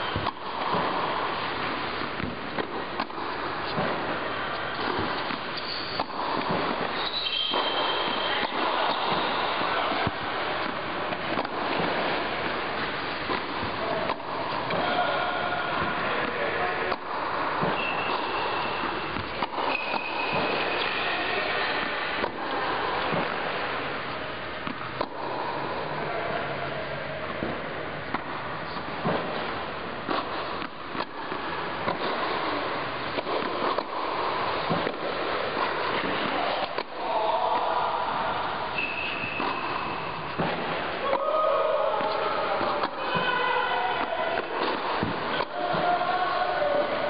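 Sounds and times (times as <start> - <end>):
tennis racket hitting ball: 0.0 - 23.9, 24.6 - 25.4, 27.3 - 47.0
background hiss: 0.0 - 47.0.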